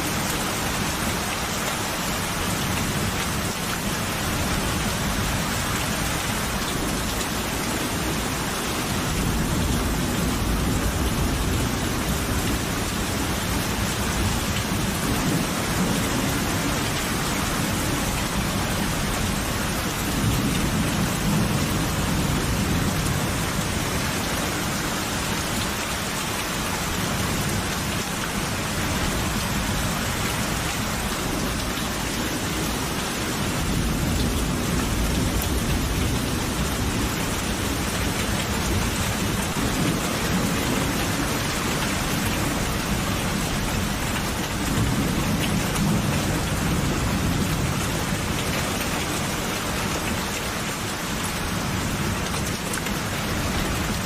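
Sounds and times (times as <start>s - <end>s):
heavy rainfall: 0.0s - 54.0s.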